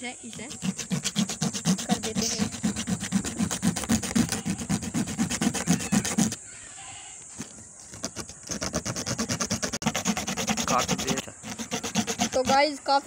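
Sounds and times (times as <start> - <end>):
pen rubbed on sandpaper: 0.2 - 6.4, 7.9 - 13.0.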